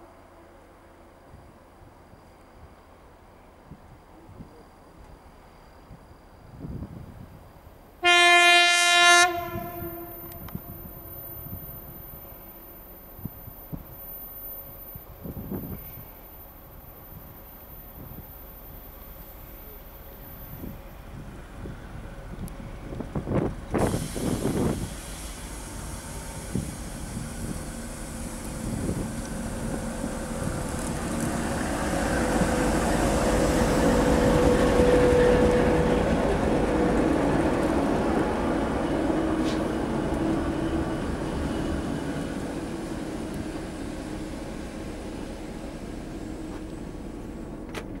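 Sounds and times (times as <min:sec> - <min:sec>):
diesel locomotive passing: 0:00.0 - 0:48.0
locomotive whine: 0:00.0 - 0:48.0
train coaches rolling past: 0:00.0 - 0:48.0.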